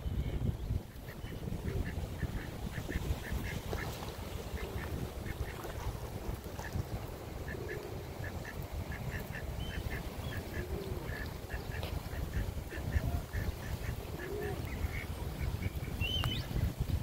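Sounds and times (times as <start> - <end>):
ducks quacking: 1.0 - 5.8, 7.4 - 16.3.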